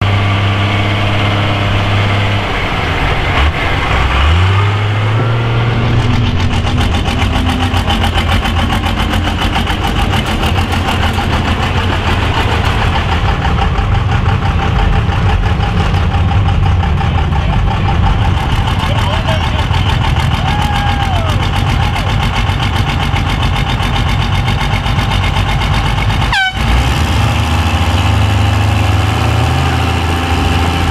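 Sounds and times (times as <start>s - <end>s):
truck engine idling and revving: 0.0s - 30.9s.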